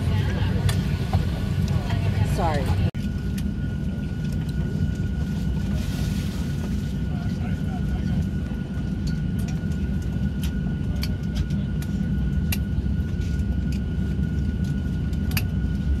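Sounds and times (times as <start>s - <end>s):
low rumble of vehicles and jet: 0.0s - 16.0s.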